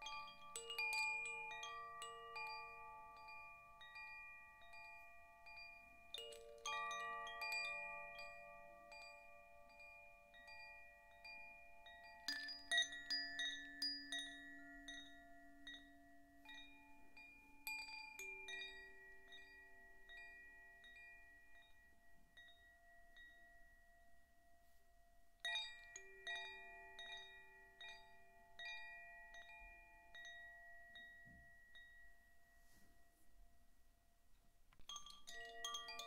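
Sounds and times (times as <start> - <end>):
tuned wind chime ringing: 0.0 - 33.2, 34.9 - 36.0.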